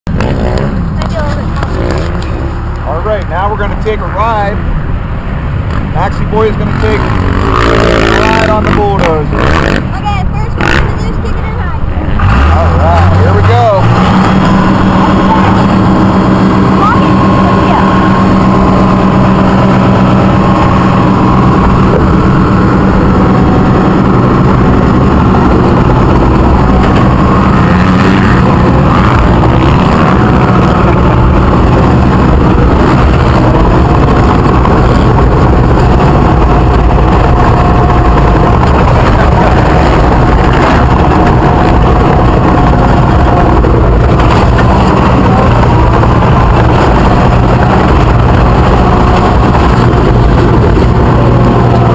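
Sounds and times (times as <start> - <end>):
bulldozer diesel engine running: 0.1 - 51.9.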